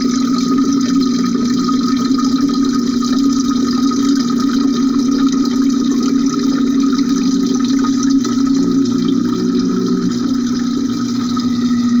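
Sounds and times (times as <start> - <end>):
steady low hum: 0.0 - 12.0
water pouring underwater: 0.0 - 12.0.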